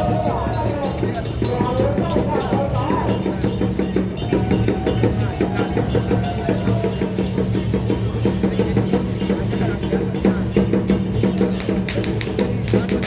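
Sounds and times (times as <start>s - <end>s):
drum and wood-block percussion: 0.0s - 13.0s.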